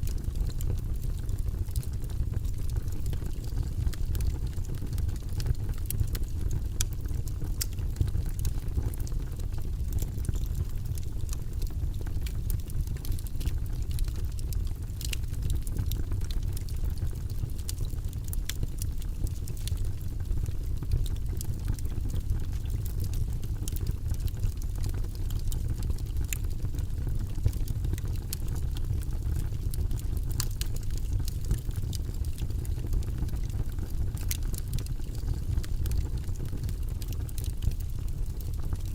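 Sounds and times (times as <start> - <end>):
logs crackling and popping: 0.0 - 38.9
low rumble of flames: 0.0 - 38.9.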